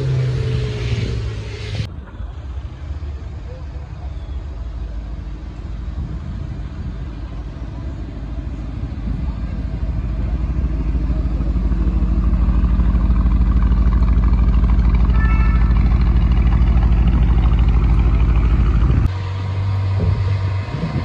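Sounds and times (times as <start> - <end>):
vehicle engine pulsing: 0.0 - 21.0.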